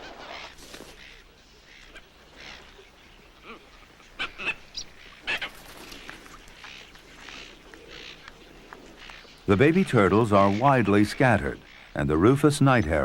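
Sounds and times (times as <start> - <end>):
herons squawking harshly: 0.0 - 8.3, 8.9 - 13.0.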